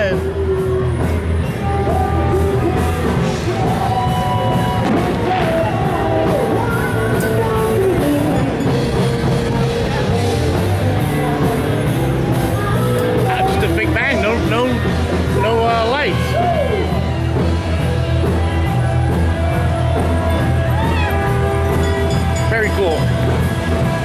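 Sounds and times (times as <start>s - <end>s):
live rock band playing: 0.0s - 24.0s
steady bass line: 0.0s - 24.0s.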